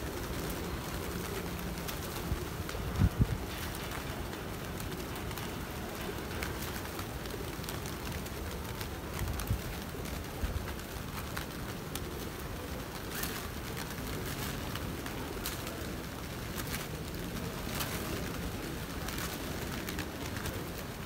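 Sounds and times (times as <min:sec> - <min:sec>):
low city rumble: 0:00.0 - 0:21.0
pigeon wings flapping: 0:00.0 - 0:21.0.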